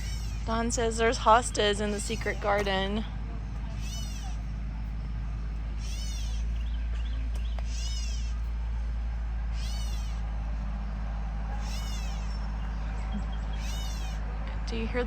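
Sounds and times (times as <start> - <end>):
songbird calling: 0.0 - 14.9.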